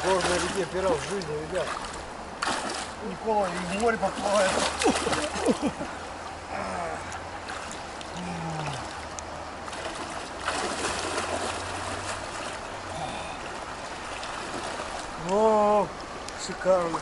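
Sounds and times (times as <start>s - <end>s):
person wading through water: 0.0s - 17.0s
river running over stones: 0.0s - 17.0s.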